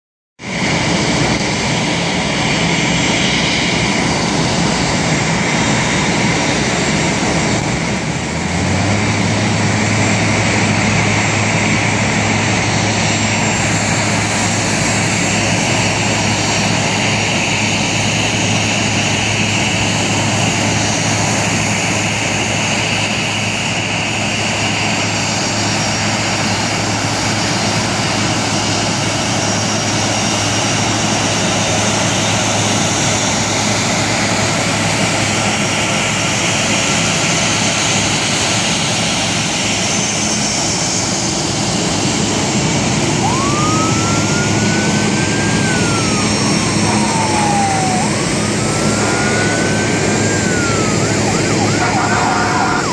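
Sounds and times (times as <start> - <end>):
jet engines idling: 0.5 - 52.9.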